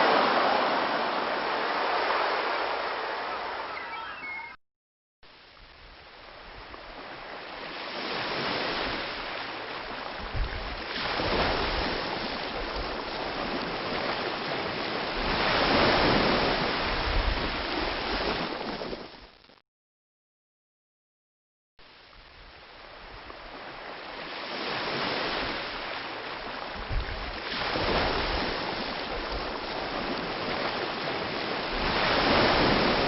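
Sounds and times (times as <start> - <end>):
sea waves breaking on beach: 0.0 - 4.0, 6.0 - 19.3, 22.0 - 33.0.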